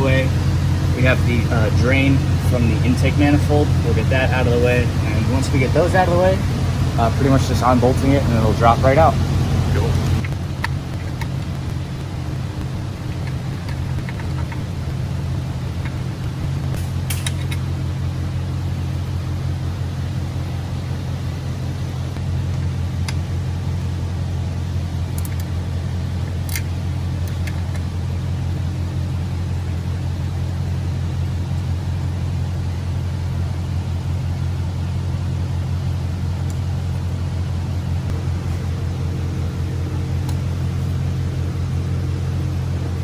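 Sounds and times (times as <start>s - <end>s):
machinery drone: 0.0s - 43.0s.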